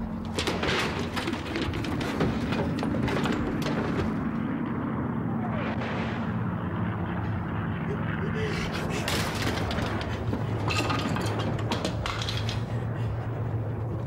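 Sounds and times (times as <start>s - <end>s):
artillery bombardment rumble: 0.0s - 4.8s, 5.4s - 7.6s, 8.8s - 14.0s
crackling and clatter: 0.0s - 7.8s, 8.8s - 14.0s.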